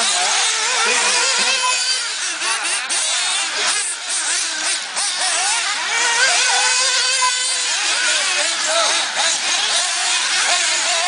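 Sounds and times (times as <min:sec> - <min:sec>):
small engines whining: 0:00.0 - 0:11.0.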